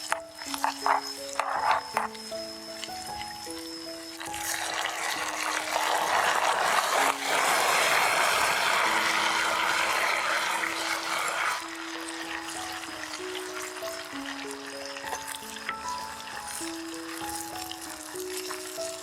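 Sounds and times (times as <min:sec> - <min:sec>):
light background music: 0:00.0 - 0:19.0
liquid pouring: 0:00.0 - 0:19.0.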